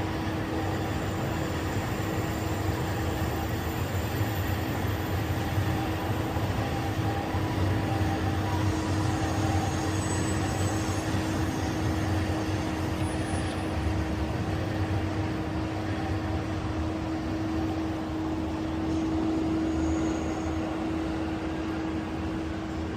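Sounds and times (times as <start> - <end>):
constant drone tone: 0.0 - 22.9
steady mechanical hum: 0.0 - 22.9.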